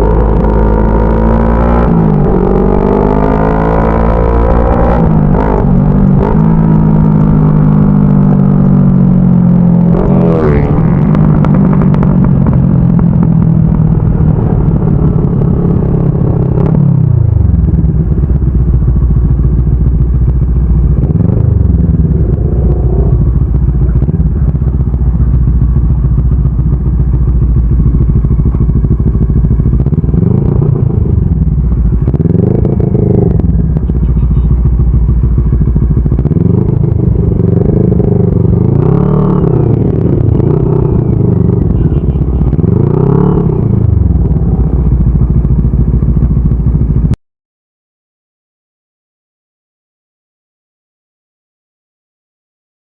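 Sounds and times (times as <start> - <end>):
motorcycle engine revving: 0.0 - 47.2.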